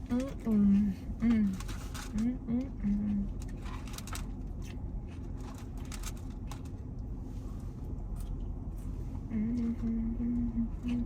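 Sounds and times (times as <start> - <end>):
low hum inside car: 0.0 - 11.0.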